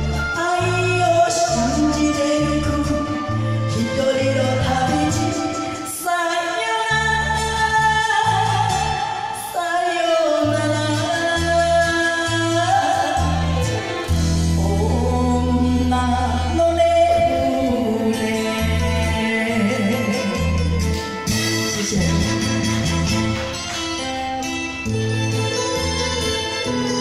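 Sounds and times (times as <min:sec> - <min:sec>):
woman singing into microphone: 0:00.0 - 0:23.3
karaoke backing track: 0:00.0 - 0:27.0.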